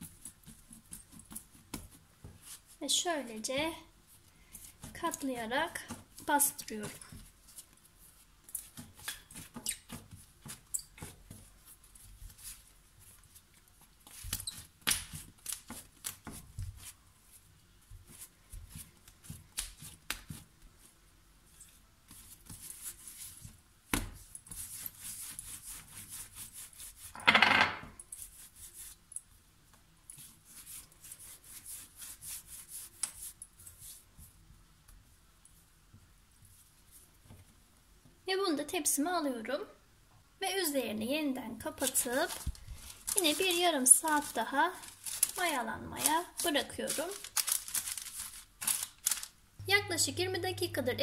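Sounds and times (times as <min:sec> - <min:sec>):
hands kneading dough: 0:00.0 - 0:27.2, 0:28.0 - 0:38.0, 0:41.6 - 0:51.0.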